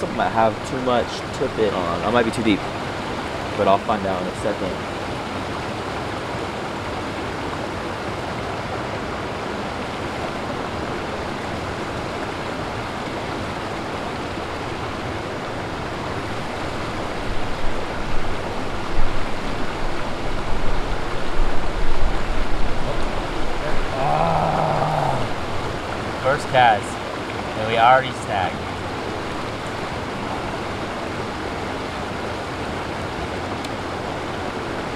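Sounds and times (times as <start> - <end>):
flowing river water: 0.0 - 34.9.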